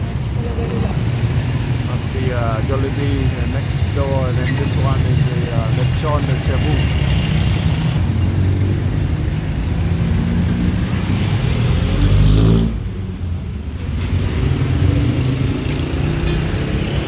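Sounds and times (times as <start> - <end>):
traffic engines running: 0.0 - 17.0
vehicle revving up: 0.6 - 17.0.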